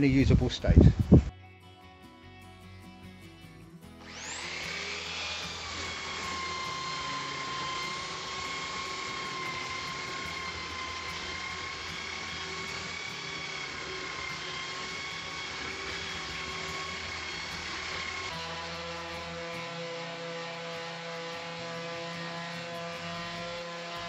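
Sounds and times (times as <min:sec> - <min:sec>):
belt sander on wood: 0:04.0 - 0:24.0.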